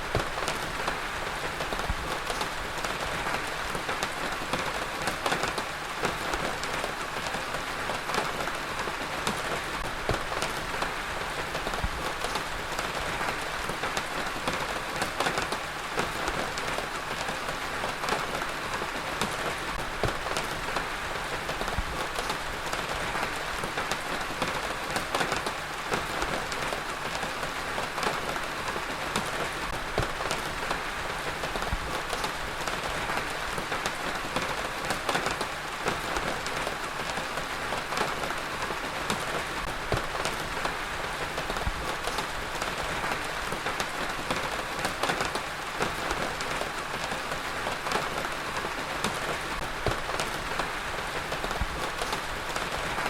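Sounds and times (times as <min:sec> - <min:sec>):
heavy rain: 0:00.0 - 0:53.0
raindrops pattering on a surface: 0:00.0 - 0:53.0.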